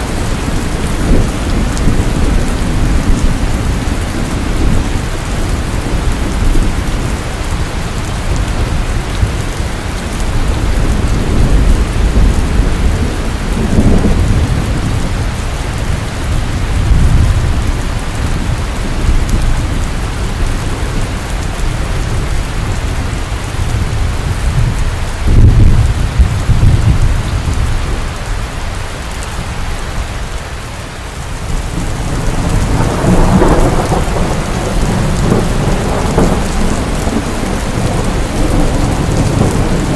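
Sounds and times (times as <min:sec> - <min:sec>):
low rolling thunder: 0:00.0 - 0:28.2, 0:31.3 - 0:39.9
steady rainfall: 0:00.0 - 0:39.9.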